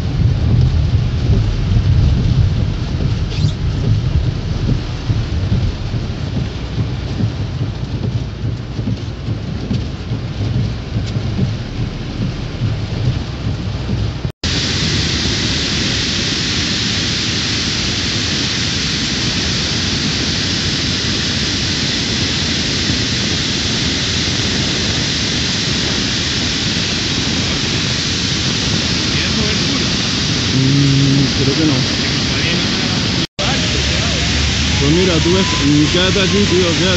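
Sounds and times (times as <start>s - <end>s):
floodwater rushing down wall: 0.0s - 36.9s
heavy rain on windscreen: 0.0s - 36.9s
low rumble: 0.0s - 36.9s.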